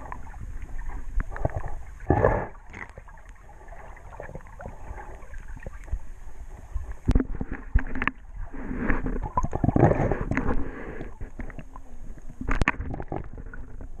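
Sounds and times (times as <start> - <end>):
underwater water gurgling: 0.0 - 14.0.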